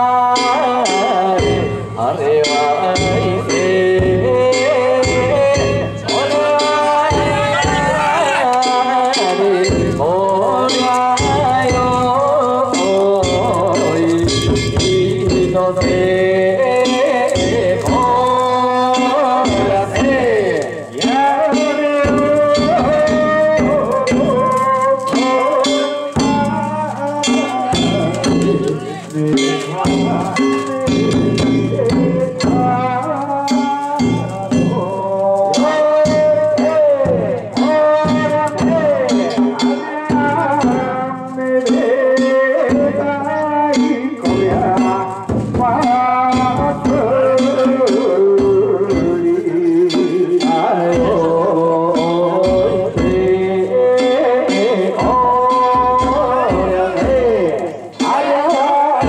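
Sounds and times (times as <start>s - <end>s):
drum and gong strikes: 0.1s - 58.6s.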